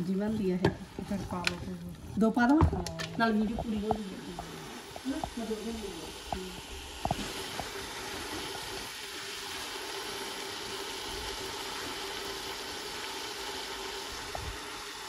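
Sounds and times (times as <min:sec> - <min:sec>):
pressure cooker hissing: 0:00.0 - 0:15.0.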